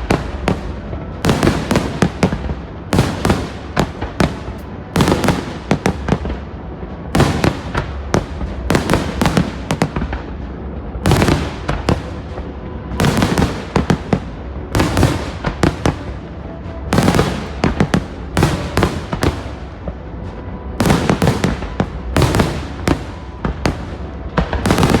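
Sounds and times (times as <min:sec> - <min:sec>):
faint music: 0:00.0 - 0:25.0
fireworks bangs and crackles: 0:00.0 - 0:25.0.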